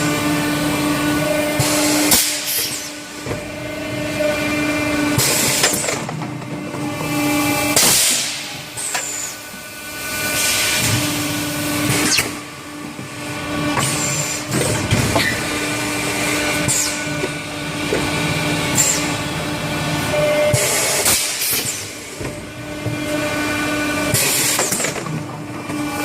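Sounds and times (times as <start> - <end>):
machine mechanical hum: 0.0 - 26.0.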